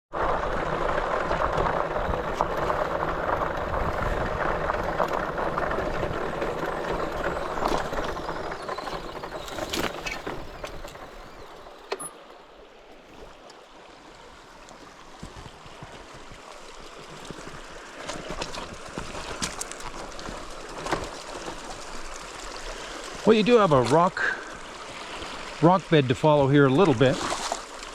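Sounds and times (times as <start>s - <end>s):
river water rushing: 0.2s - 27.9s.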